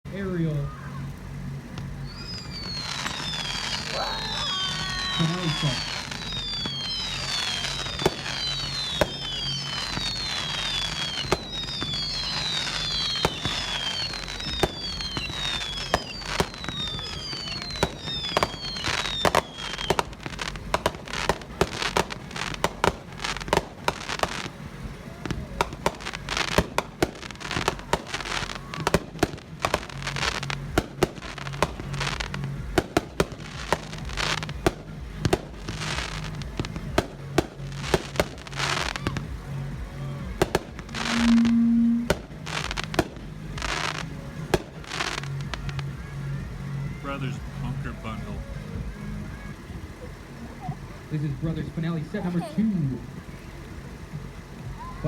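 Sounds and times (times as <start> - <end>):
firework bangs and crackles: 0.1 - 55.0
firework whistles: 0.5 - 53.1.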